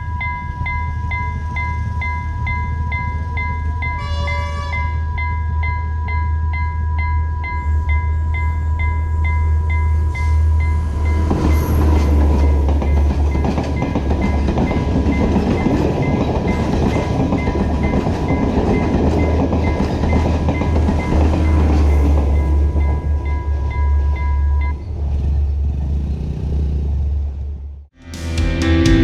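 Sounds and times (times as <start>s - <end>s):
level crossing bell ringing: 0.0s - 24.8s
train rumble and wheel noise: 0.0s - 27.9s.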